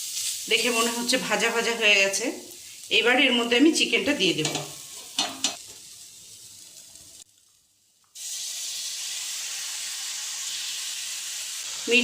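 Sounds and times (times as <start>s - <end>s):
chicken sizzling in pan: 0.0s - 12.0s.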